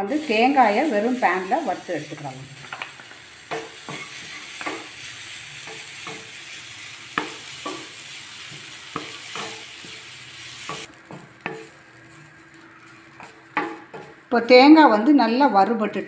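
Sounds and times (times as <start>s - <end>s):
light sizzling hiss: 0.0s - 14.4s
spatula scraping frying pan: 0.2s - 14.3s.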